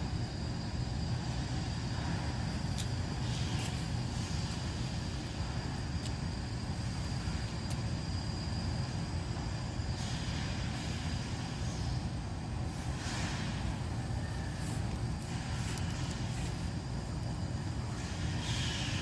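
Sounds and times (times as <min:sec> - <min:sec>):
wood stove fire rumbling: 0:00.0 - 0:19.0.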